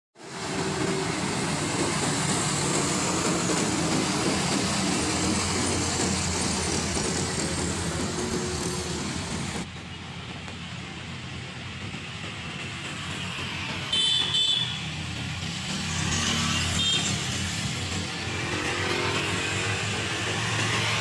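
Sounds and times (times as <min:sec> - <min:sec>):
diesel trucks passing: 0:00.2 - 0:21.0
distant traffic: 0:00.2 - 0:21.0.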